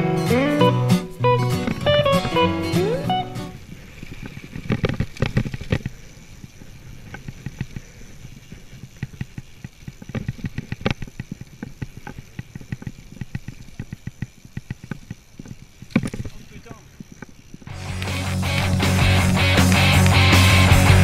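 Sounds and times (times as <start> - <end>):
tyres rumbling on dirt: 0.0 - 21.0
bike rattling and knocking: 3.6 - 21.0.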